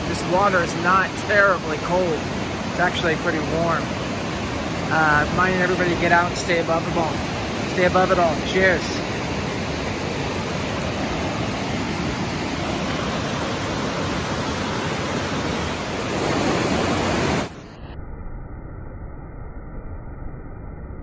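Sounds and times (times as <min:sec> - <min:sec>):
rushing white water: 0:00.0 - 0:17.6.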